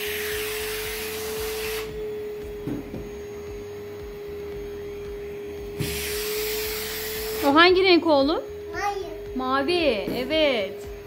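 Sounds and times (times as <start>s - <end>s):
vacuum cleaner humming: 0.0s - 11.0s.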